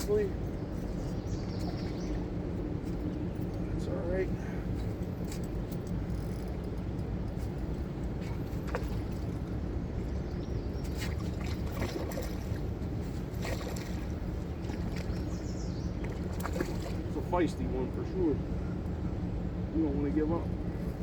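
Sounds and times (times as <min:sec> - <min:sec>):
river water: 0:00.0 - 0:21.0.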